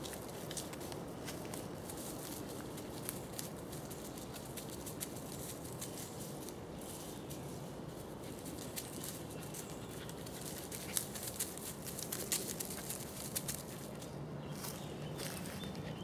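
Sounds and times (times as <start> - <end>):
dry leaves rustling and crackling: 0.0 - 16.0
low steady hiss: 0.0 - 16.0.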